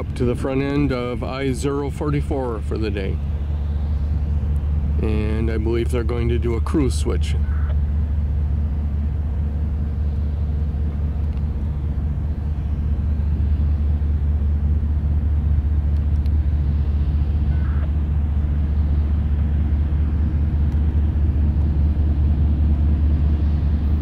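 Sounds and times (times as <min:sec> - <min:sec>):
diesel locomotives rumbling: 0:00.0 - 0:24.0.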